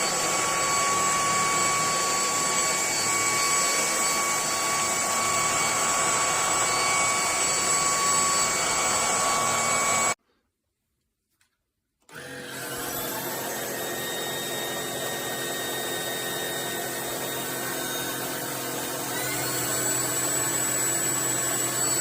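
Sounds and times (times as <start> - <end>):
vacuum cleaner running: 0.0 - 10.2, 12.1 - 22.0.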